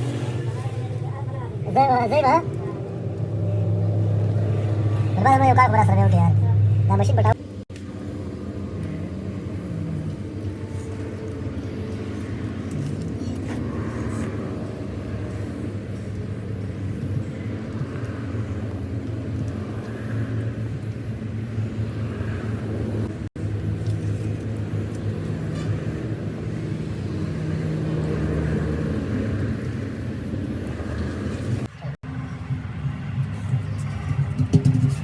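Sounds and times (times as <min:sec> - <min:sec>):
heavy machinery engine humming: 0:00.0 - 0:35.0.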